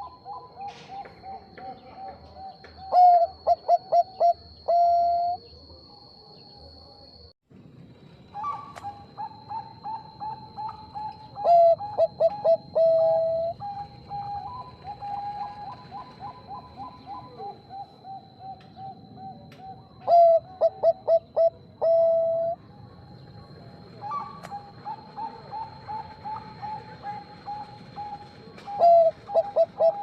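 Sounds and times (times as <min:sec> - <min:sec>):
soft dove coos: 0:00.0 - 0:05.5, 0:08.4 - 0:22.6, 0:24.0 - 0:30.0.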